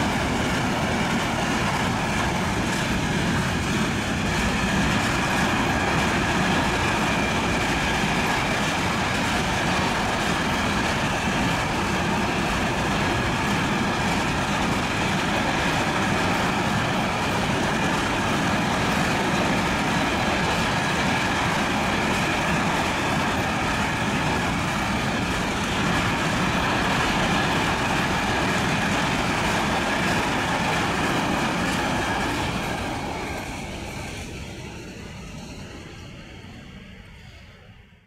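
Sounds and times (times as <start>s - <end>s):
freight train wheels on track: 0.0s - 37.9s.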